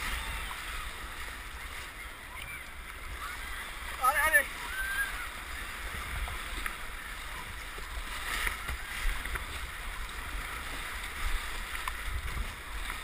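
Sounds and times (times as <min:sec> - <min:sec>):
paddle splashes: 0:00.0 - 0:13.0
water rumbling against boat: 0:00.0 - 0:13.0
whitewater rapids rushing: 0:00.0 - 0:13.0.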